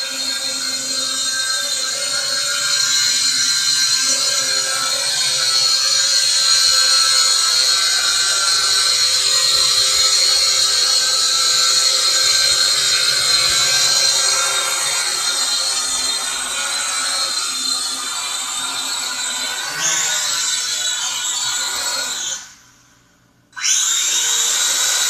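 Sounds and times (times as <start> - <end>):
toy quadcopter motors whining: 0.0 - 22.8, 23.6 - 25.0.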